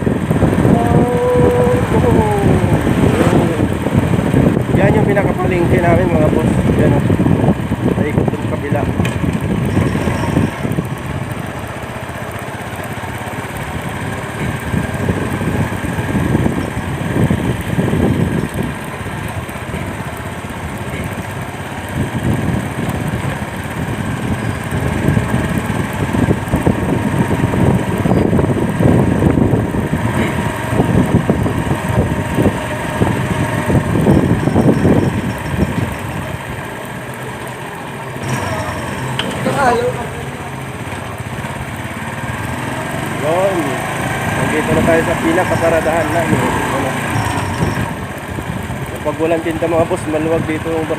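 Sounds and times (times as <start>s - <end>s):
motorcycle engine running: 0.0s - 50.9s
road noise: 0.0s - 50.9s.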